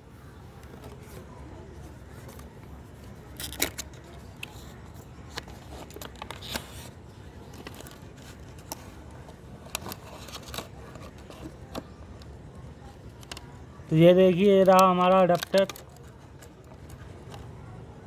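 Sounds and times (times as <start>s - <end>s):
low background hum: 0.0s - 18.0s
cardboard and plastic packaging crinkling: 0.6s - 17.5s.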